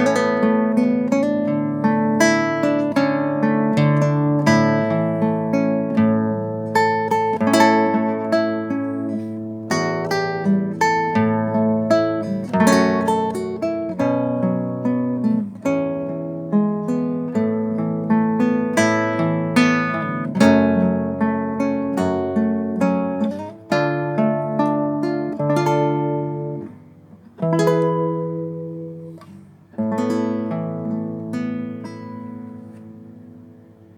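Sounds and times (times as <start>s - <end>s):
acoustic guitar: 0.0s - 33.9s.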